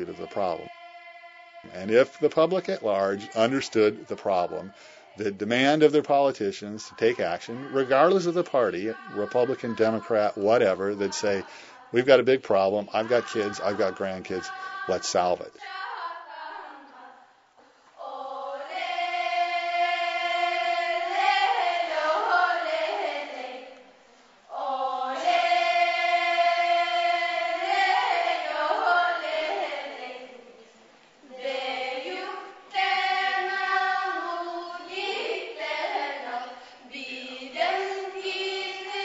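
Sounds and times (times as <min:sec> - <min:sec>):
choir singing: 0:00.0 - 0:17.4, 0:18.0 - 0:23.9, 0:24.5 - 0:39.0.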